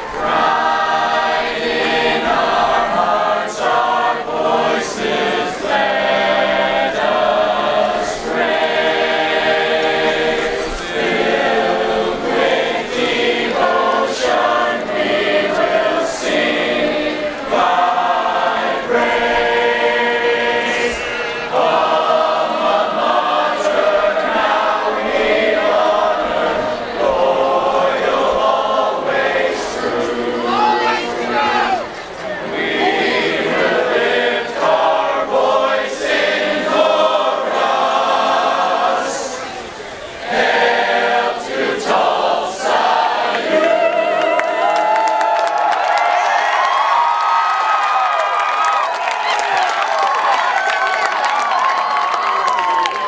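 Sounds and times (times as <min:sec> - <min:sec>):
group singing in chorus: 0:00.0 - 0:50.6.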